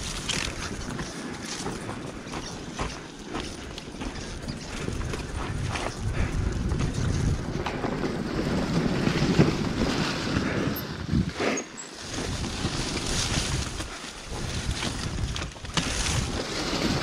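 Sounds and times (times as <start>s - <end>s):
bike knocks and rattles: 0.0s - 10.8s, 12.0s - 17.0s
dirt bike engine at low revs: 0.0s - 11.4s, 12.0s - 17.0s.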